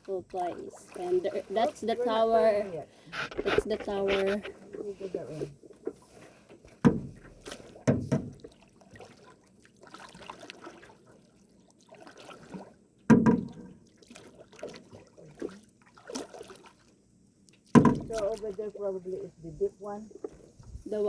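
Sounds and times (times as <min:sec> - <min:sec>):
paddles splashing through water: 0:00.0 - 0:21.0.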